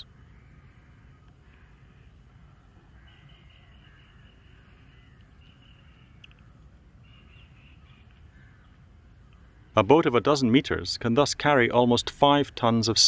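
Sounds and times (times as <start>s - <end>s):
distant birds calling: 0.0s - 13.0s.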